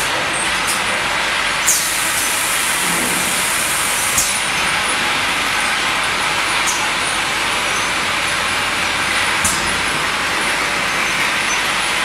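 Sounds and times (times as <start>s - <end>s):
filling machine running: 1.6s - 12.0s.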